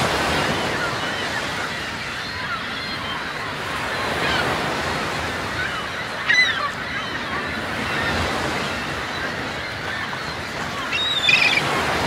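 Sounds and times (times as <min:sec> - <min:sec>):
sea waves washing: 0:00.0 - 0:12.0
seabirds calling: 0:00.0 - 0:12.0.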